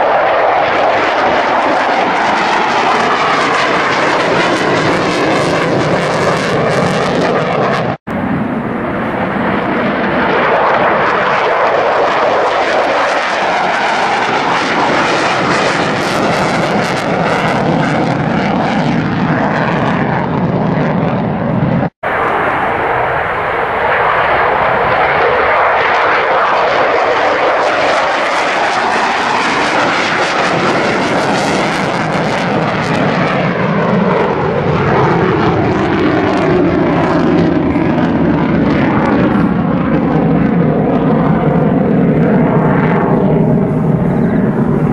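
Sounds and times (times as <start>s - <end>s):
fighter jet engines roaring: 0.0s - 44.9s.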